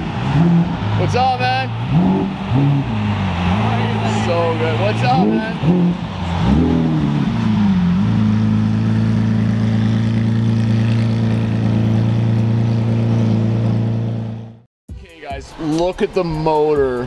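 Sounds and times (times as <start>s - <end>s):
sports car engine at low revs: 0.0s - 14.6s.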